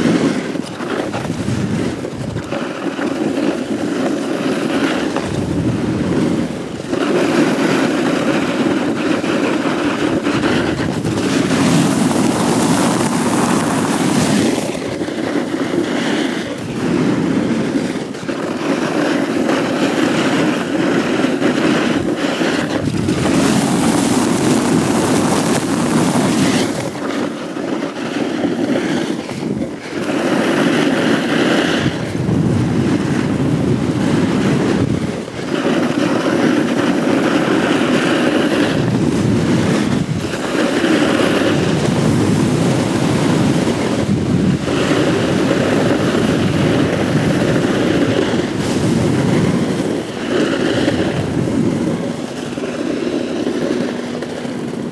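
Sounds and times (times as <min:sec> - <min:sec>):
snowboard scraping on snow: 0:00.0 - 0:54.9.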